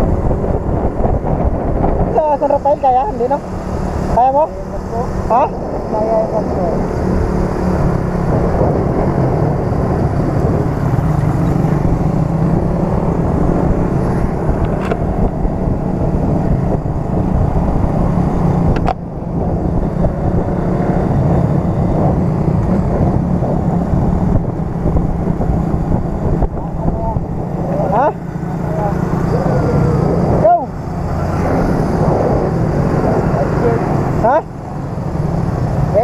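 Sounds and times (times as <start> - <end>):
motorcycle engine running: 0.0 - 36.0
wind rushing: 0.0 - 36.0.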